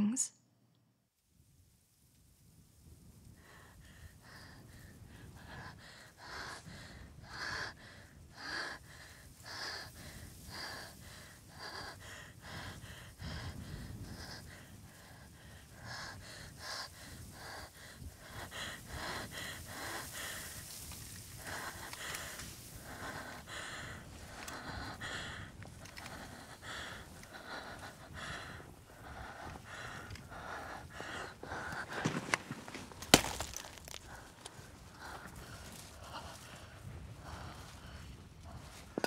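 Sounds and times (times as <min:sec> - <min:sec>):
person breathing heavily: 0:03.4 - 0:39.0.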